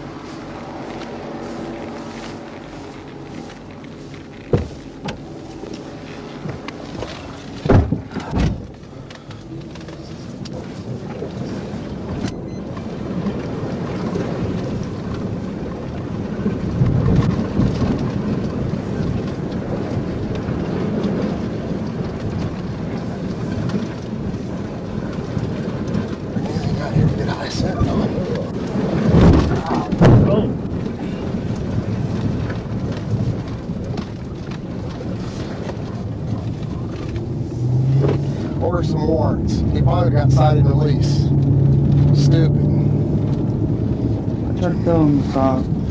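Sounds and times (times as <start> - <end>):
car rumbling over grassy field: 0.0 - 45.9.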